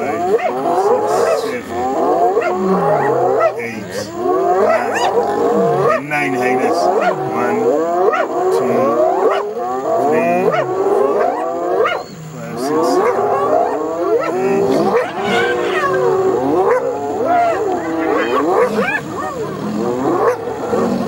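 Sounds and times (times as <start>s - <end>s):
hyenas calling: 0.0s - 21.0s
lions growling and snarling: 0.0s - 21.0s.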